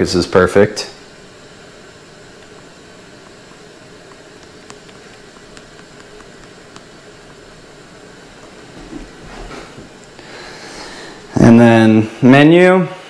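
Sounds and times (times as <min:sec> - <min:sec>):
steady fan noise: 0:00.0 - 0:13.0.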